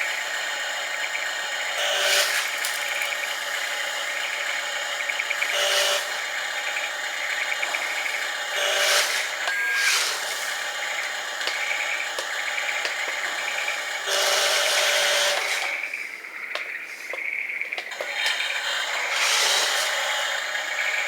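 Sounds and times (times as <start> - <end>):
dump truck machinery whirring: 0.0 - 16.1, 17.8 - 21.0.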